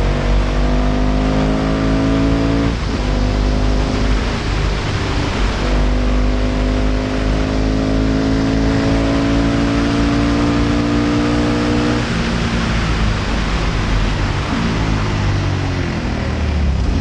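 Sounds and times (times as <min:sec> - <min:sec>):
motorcycle engine at full throttle: 0:00.0 - 0:17.0
wind and road noise: 0:00.0 - 0:17.0.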